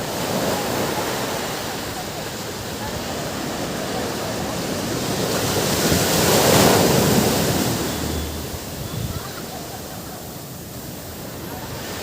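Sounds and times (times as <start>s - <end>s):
wave breaking: 0.0s - 12.0s
waves washing on beach: 0.0s - 12.0s.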